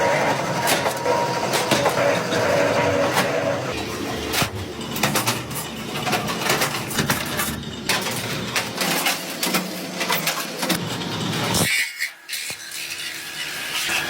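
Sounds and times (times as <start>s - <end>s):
machine running steadily: 0.0s - 11.7s.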